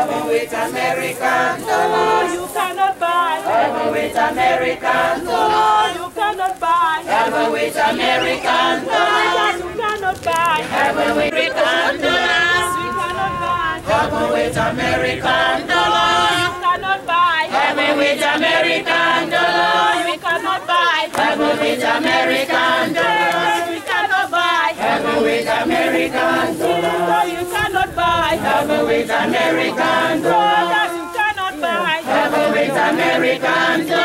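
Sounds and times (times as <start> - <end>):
choir and congregation singing: 0.0 - 34.0.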